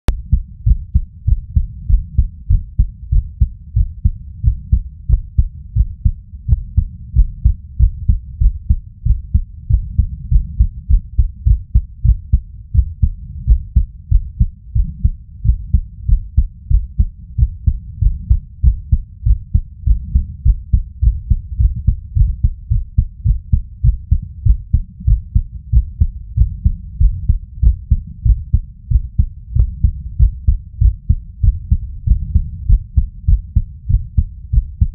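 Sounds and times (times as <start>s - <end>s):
heartbeat thumps: 0.1s - 34.9s.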